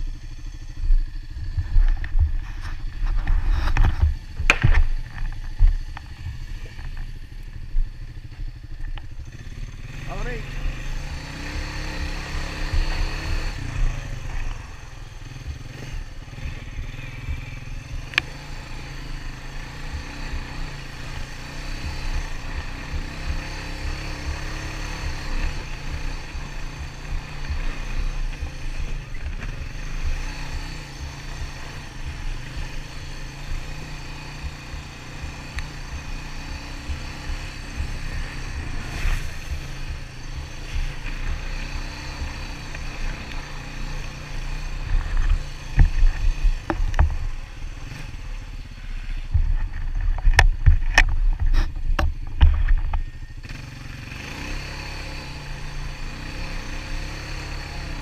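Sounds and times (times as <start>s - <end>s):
atv engine rumbling: 0.0s - 58.0s.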